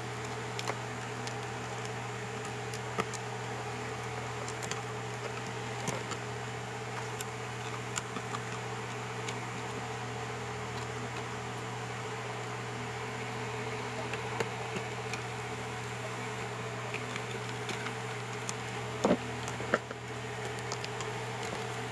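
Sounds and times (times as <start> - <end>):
mechanical hum with hiss: 0.0 - 21.9.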